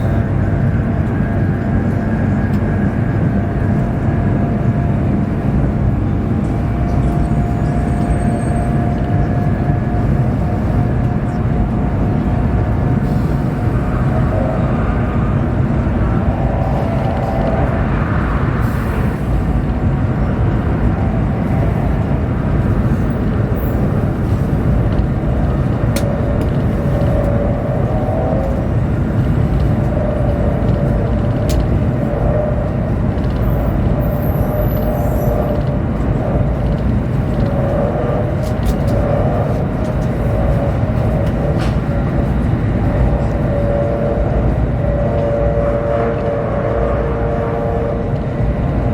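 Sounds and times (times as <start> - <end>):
train rumble and rush: 0.0 - 48.9.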